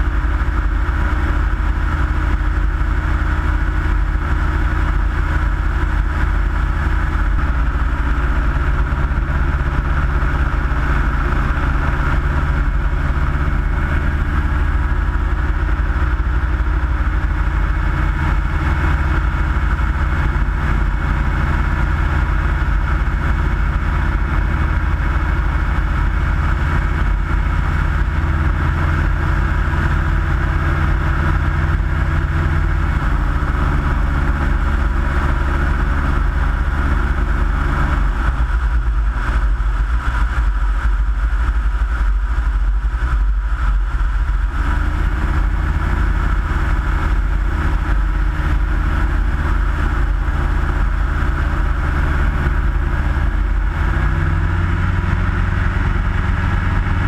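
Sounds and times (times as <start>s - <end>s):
airflow rushing over microphone: 0.0s - 57.0s
light aircraft engine drone: 0.0s - 57.0s.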